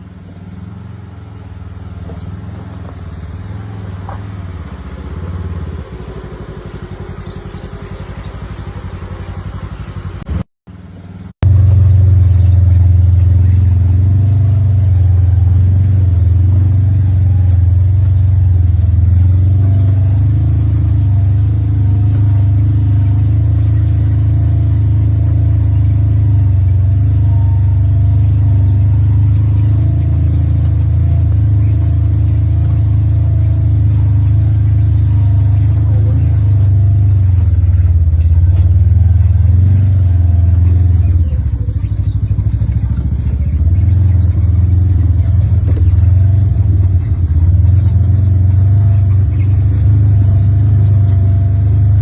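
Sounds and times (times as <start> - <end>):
vehicle engine rumbling: 0.0 - 52.0.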